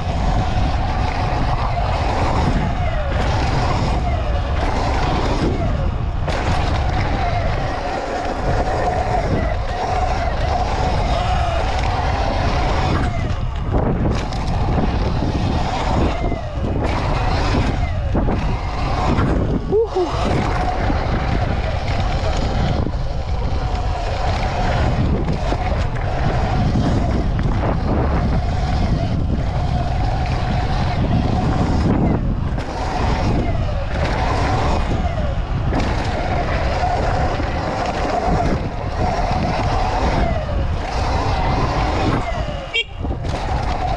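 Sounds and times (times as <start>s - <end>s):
tyres on dirt: 0.0s - 43.9s
wind buffeting microphone: 0.0s - 43.9s.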